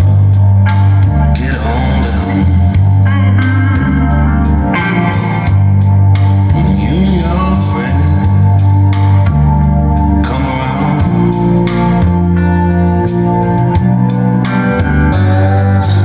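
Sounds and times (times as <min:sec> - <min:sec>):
guitar-led rock music: 0:00.0 - 0:16.0.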